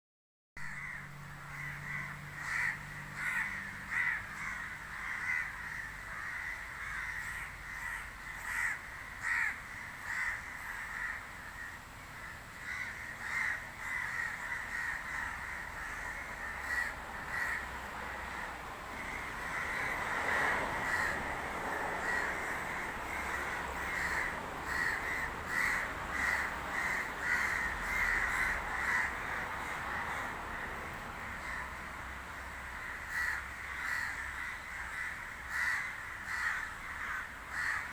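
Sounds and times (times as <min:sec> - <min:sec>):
crows cawing: 0:00.6 - 0:37.9.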